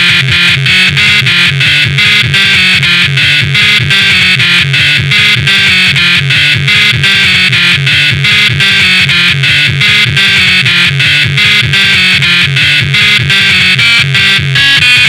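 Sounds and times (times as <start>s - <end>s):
electronic techno music: 0.0s - 15.0s.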